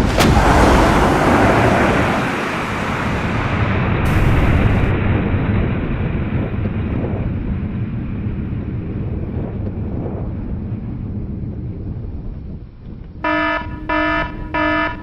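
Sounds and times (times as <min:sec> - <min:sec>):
loud rough rumble: 0:00.0 - 0:15.0.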